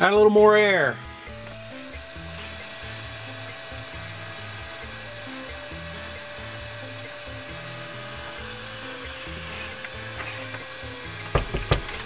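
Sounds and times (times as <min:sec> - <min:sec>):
background music with bass line: 0:00.0 - 0:12.0
hot air blower hissing: 0:00.0 - 0:12.0.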